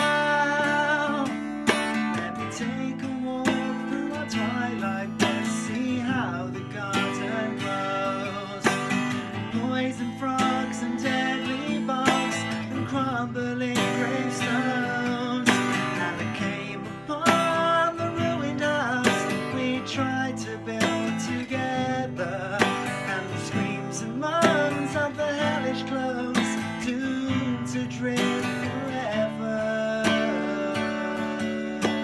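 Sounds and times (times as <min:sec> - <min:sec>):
acoustic guitar strumming: 0:00.0 - 0:32.0
person singing: 0:00.0 - 0:32.0.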